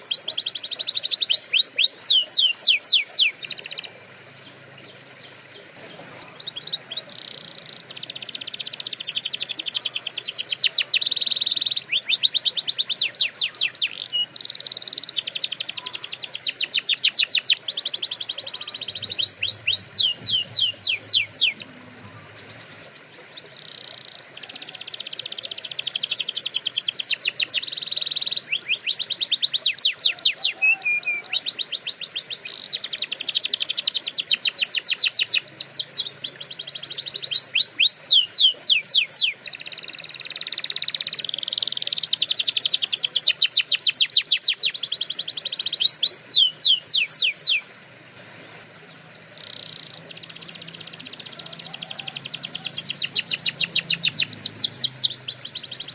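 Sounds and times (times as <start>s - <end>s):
canary singing trills: 0.0s - 47.8s, 48.8s - 55.9s.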